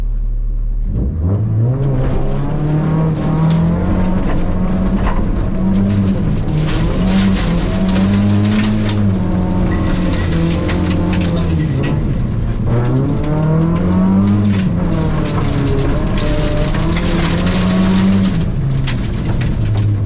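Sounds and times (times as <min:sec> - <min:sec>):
rally car engine accelerating: 0:00.0 - 0:20.0.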